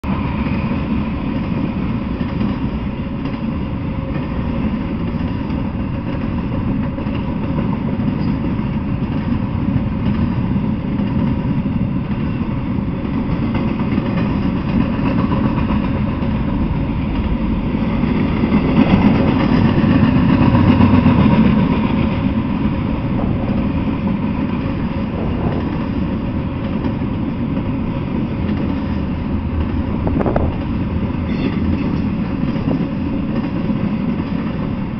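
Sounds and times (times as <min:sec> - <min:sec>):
wheels rumbling on rail: 0:00.0 - 0:34.9.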